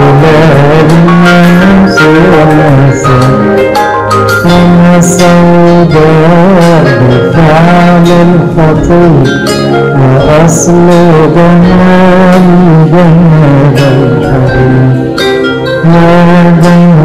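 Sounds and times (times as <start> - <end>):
held bass notes: 0.0 - 17.0
hymn melody with sliding notes: 0.0 - 17.0.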